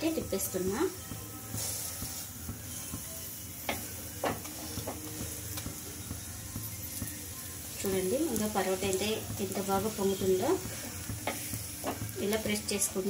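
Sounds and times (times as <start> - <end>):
flatbread sizzling in oil: 0.0 - 13.0.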